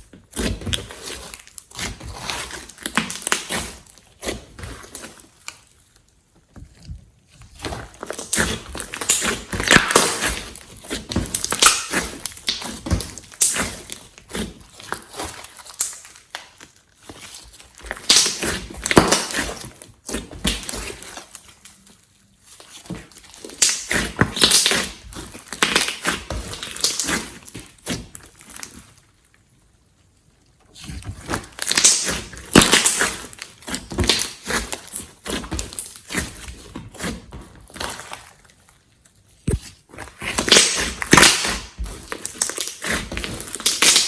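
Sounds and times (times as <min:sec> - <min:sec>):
slime squishing: 0:00.0 - 0:44.0.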